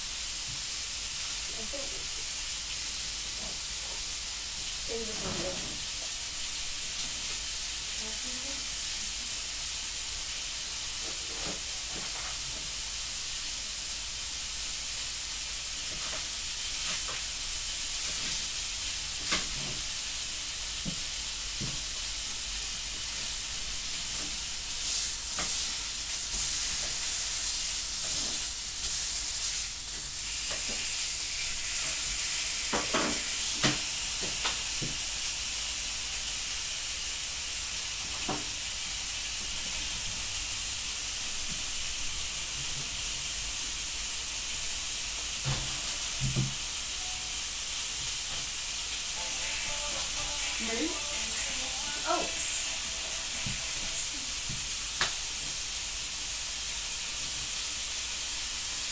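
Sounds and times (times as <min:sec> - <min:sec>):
food sizzling in a frying pan: 0:00.0 - 0:58.9.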